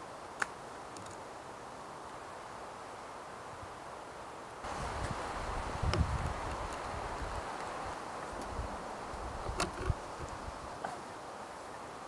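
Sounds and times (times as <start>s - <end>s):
wind in forest: 0.0s - 12.0s.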